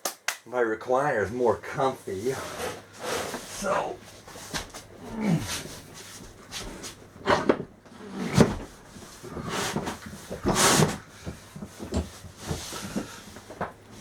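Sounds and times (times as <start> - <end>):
rustling scrape: 1.4 - 14.0
chair parts knocking and scraping: 2.4 - 14.0.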